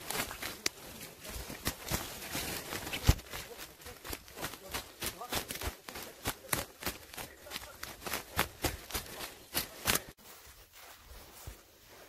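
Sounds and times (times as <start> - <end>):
footsteps through undergrowth: 0.0 - 12.0.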